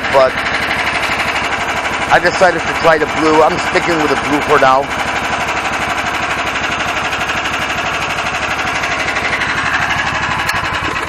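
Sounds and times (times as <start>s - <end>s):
go-kart engine idling: 0.0s - 11.0s.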